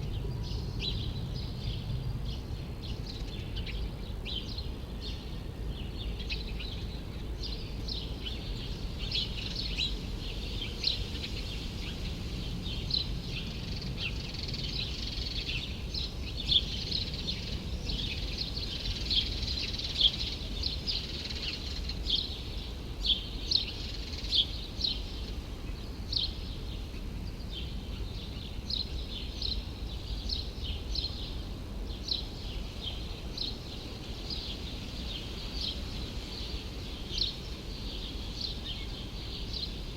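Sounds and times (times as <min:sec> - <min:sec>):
city background hum: 0:00.0 - 0:39.9.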